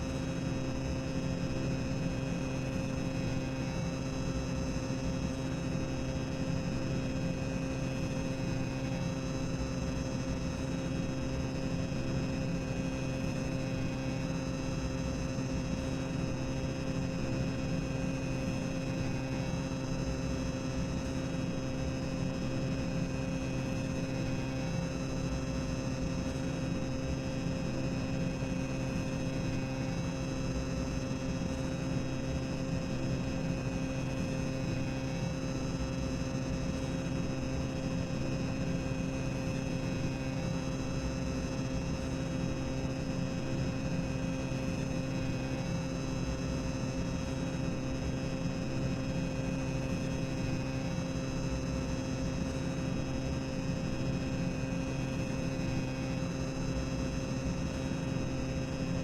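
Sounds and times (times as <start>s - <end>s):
constant hum: 0.0s - 59.0s.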